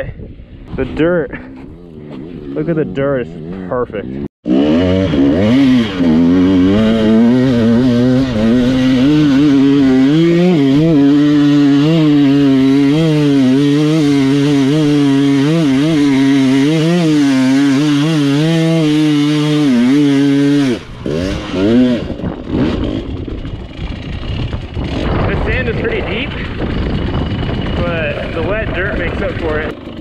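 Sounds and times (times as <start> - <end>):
dirt bike engine revving: 0.8 - 30.0.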